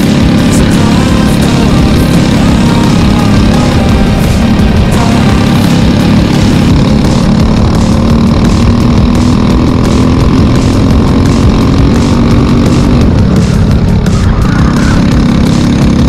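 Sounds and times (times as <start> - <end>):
kart engine running loudly: 0.0 - 16.0.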